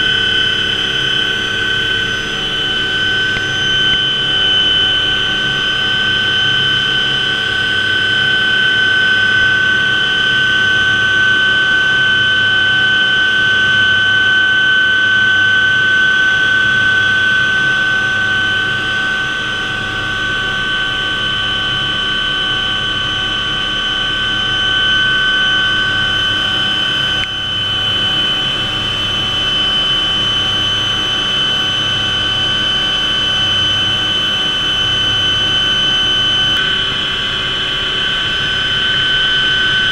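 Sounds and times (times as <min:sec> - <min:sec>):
pulsing rotor rumble: 0:00.0 - 0:14.8, 0:18.0 - 0:39.9
helicopter turbine whine: 0:00.0 - 0:39.9.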